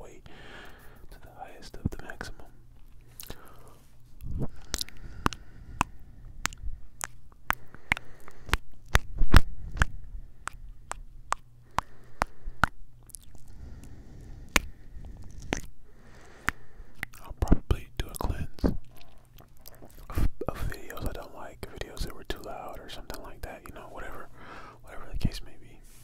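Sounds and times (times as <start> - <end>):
soft mouth noise: 1.4 - 24.3.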